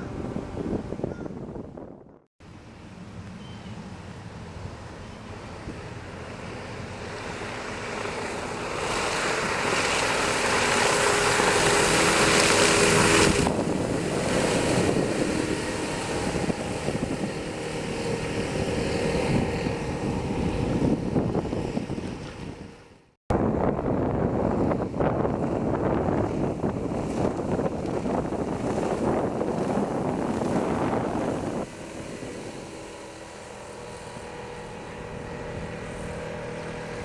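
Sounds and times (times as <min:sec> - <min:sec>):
wind noise on microphone: 0:00.0 - 0:02.3, 0:03.4 - 0:37.0
water rushing along hull: 0:00.0 - 0:37.0
outboard motor running: 0:03.6 - 0:37.0.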